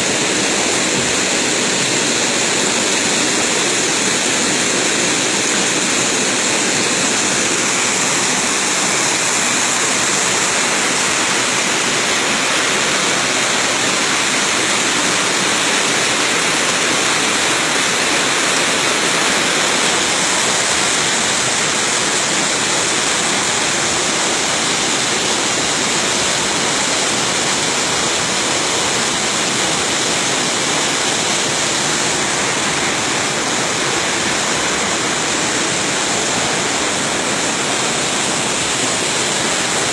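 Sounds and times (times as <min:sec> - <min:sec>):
spring water gushing: 0:00.0 - 0:39.9.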